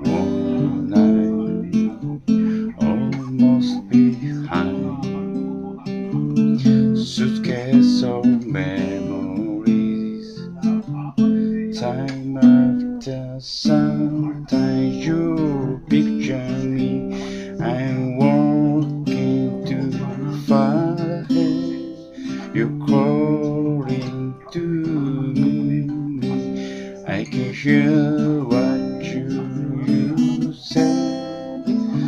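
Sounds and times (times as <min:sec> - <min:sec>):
acoustic guitar strumming: 0:00.0 - 0:32.0
man singing: 0:00.0 - 0:32.0.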